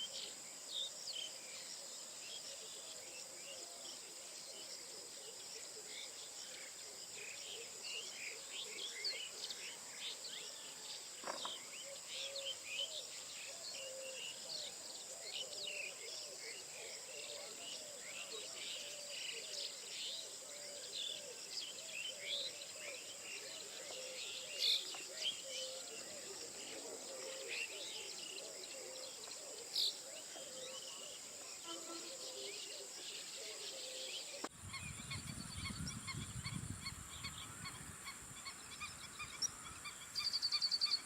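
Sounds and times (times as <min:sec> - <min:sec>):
high insect drone: 0:00.1 - 0:41.0.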